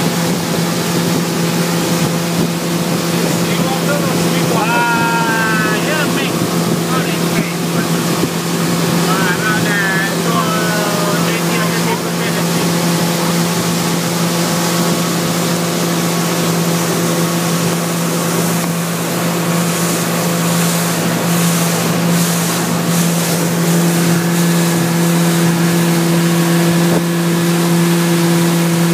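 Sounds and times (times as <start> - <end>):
motorboat engine droning: 0.0 - 28.9
wind and water rushing: 0.0 - 28.9.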